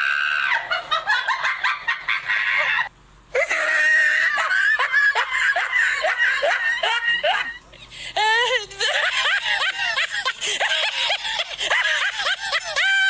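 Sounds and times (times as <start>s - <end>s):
woman squealing and laughing: 0.0s - 7.6s, 8.2s - 13.0s.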